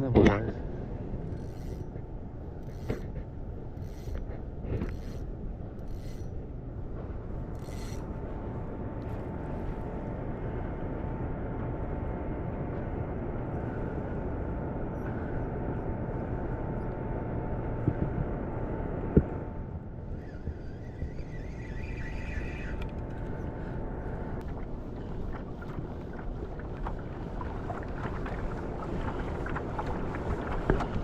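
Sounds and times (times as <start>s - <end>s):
low engine rumble with whine: 0.0s - 31.0s.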